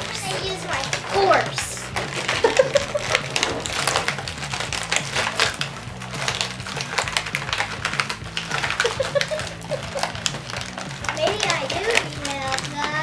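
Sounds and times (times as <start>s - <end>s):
background music: 0.0s - 13.0s
plastic packaging crinkling: 0.0s - 13.0s.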